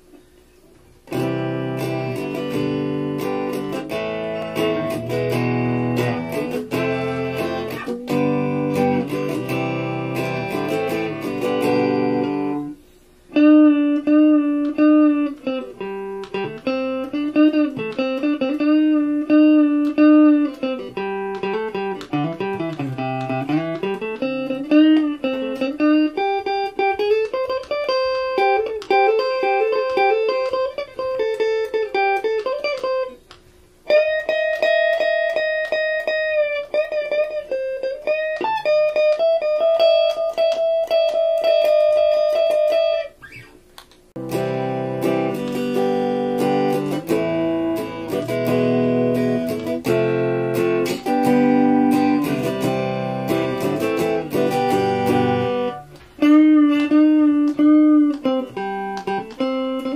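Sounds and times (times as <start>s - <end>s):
electric guitar lead lines: 0.0s - 59.9s
electric guitar strummed chords: 1.0s - 59.9s.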